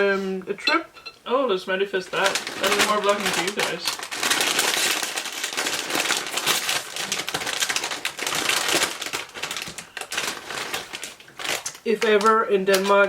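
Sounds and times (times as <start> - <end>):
plastic bag crinkling: 1.7 - 13.0.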